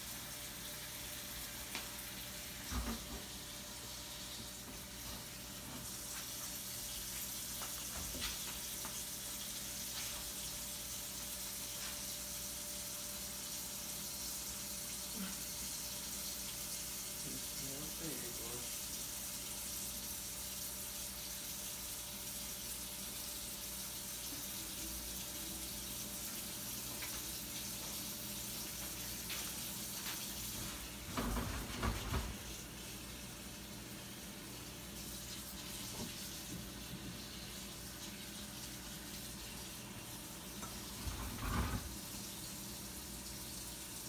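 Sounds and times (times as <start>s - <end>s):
tap water running: 0.0s - 44.0s.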